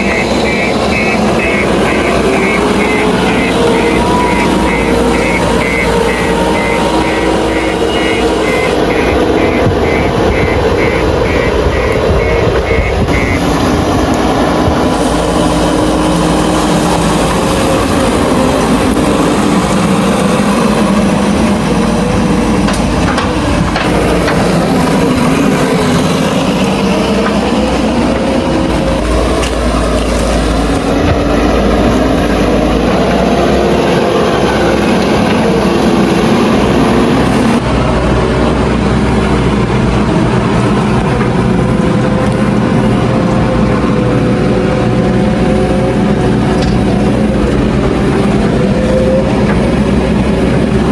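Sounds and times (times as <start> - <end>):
heavy machinery engine drone: 0.0 - 50.9.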